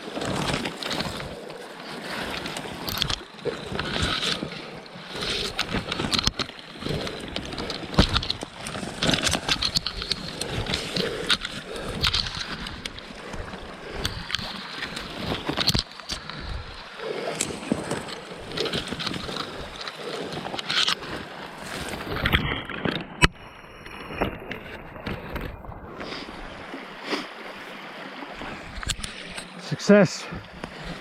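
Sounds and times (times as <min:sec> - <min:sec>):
knocks and scrapes on raft: 0:00.0 - 0:31.0
water sloshing and splashing: 0:00.0 - 0:31.0.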